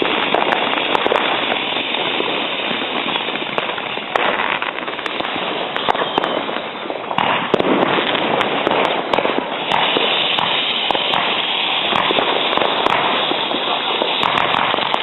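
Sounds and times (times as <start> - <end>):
fireworks and firecrackers crackling: 0.0 - 15.0.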